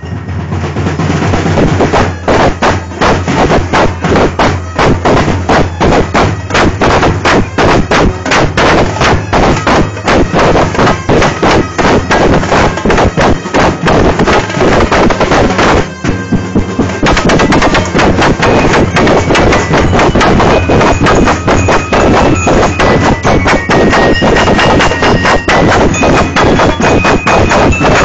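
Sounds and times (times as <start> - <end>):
high ringing notes: 0.0 - 28.0
marching drums playing: 0.0 - 28.0.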